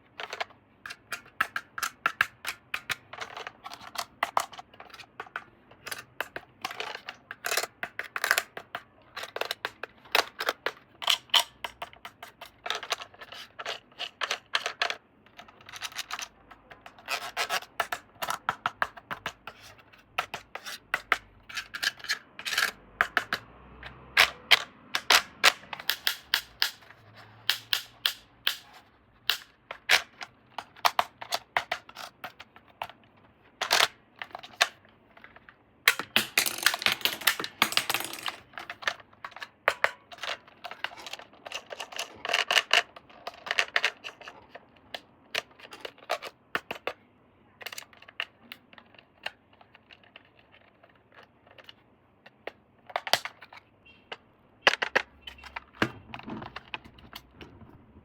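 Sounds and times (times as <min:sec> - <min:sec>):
hard plastic parts clicking: 0:00.1 - 0:47.0, 0:47.6 - 0:58.0
plastic parts rattling: 0:00.1 - 0:47.0, 0:47.6 - 0:58.0.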